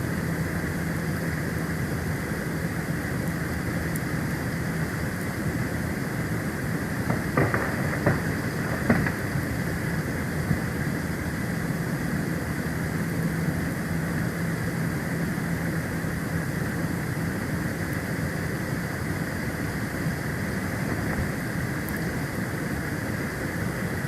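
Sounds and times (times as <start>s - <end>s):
low steady hum: 0.0s - 24.0s
wind and storm noise: 0.0s - 24.0s.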